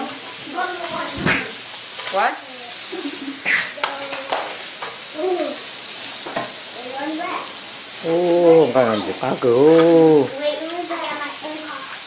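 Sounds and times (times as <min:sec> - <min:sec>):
voices talking: 0:00.0 - 0:05.8, 0:06.6 - 0:12.0
meat sizzling on grill plate: 0:00.0 - 0:12.0.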